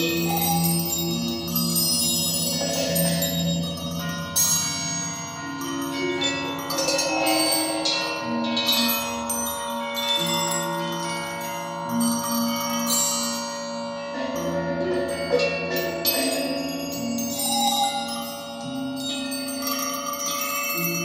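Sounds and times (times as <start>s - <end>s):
bell-like tones over low notes: 0.0s - 21.0s.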